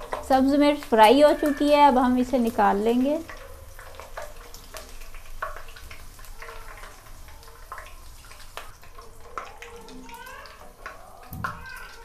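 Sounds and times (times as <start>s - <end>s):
hot oil sizzling in a wok: 0.0s - 12.0s.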